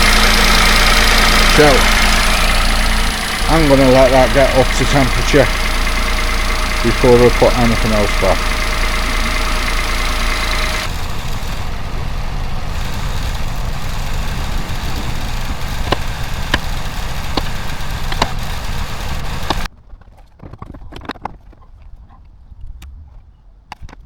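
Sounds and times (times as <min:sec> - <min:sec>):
car engine idling: 0:00.0 - 0:19.7
sharp ticks: 0:00.0 - 0:19.7.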